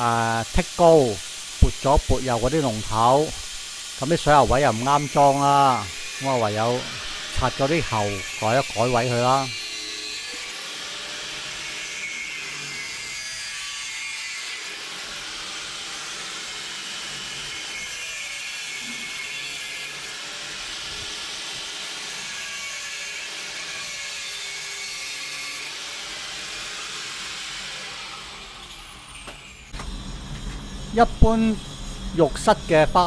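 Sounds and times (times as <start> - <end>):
angle grinder cutting metal pipe: 0.0 - 33.0.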